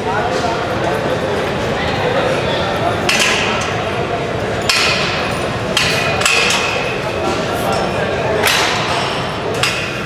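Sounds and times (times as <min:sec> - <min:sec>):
gym background noise: 0:00.0 - 0:10.0.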